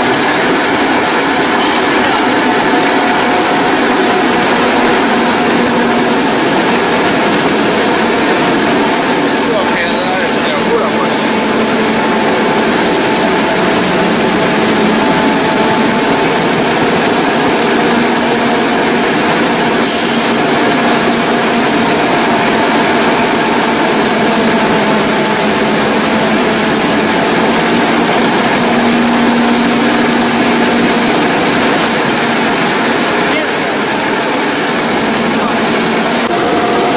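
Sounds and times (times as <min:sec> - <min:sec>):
flour mill machine humming: 0:00.0 - 0:36.9.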